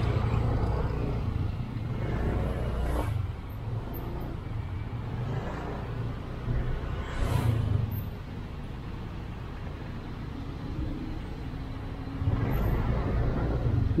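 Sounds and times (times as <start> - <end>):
city traffic: 0.0 - 14.0
scooter engine and road rumble: 0.0 - 14.0.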